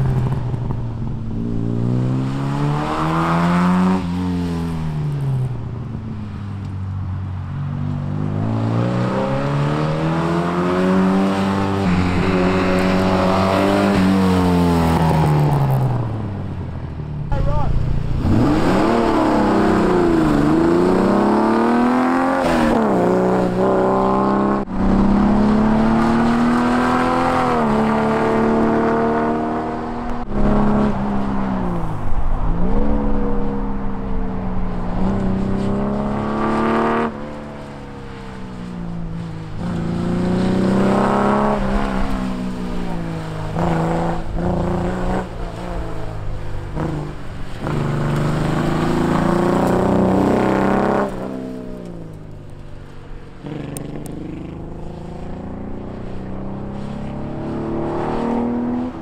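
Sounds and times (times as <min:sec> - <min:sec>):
sports car engine accelerating: 0:00.0 - 0:59.0.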